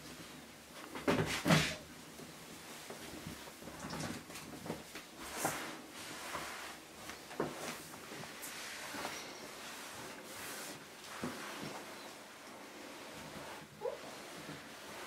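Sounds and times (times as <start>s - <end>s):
towel rustling: 1.9s - 15.0s.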